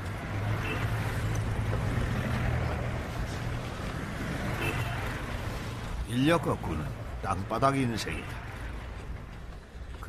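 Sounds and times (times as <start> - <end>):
street traffic noise: 0.0 - 10.0.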